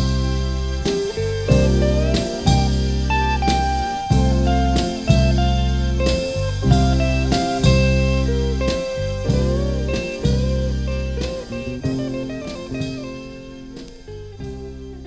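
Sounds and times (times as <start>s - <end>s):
song played from vinyl record: 0.0s - 15.0s.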